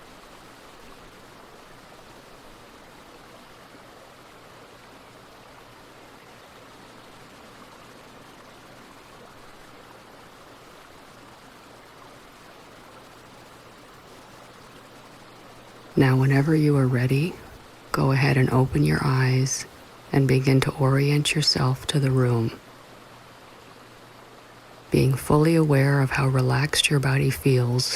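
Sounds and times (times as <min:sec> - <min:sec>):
brook water rushing: 0:00.0 - 0:27.9.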